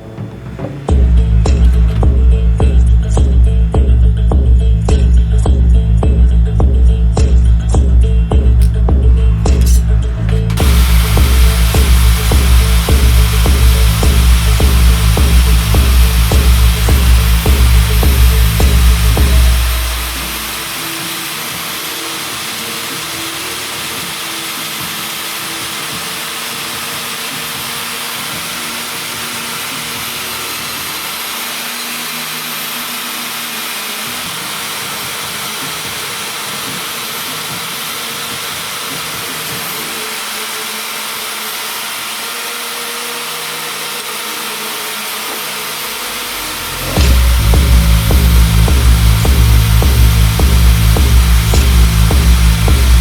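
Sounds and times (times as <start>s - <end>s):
steady rushing machine noise: 0.0s - 53.0s.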